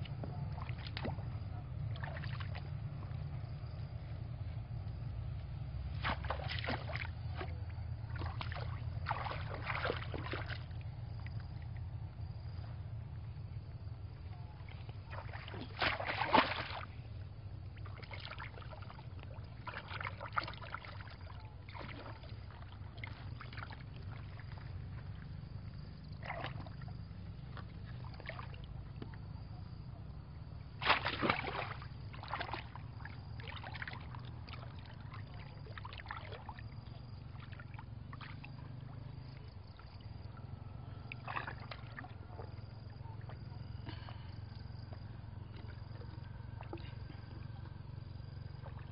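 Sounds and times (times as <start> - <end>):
muddy water splashing and sloshing: 0.0 - 48.9
steady low hum: 0.0 - 48.9.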